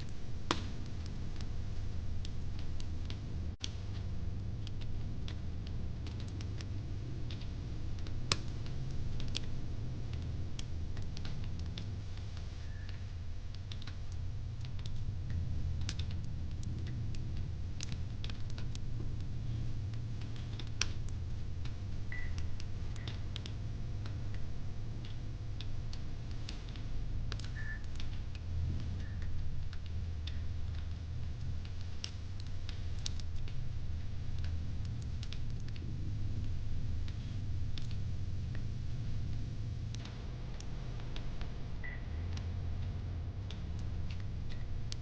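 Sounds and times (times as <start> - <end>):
fire crackling with pops: 0.0 - 45.0.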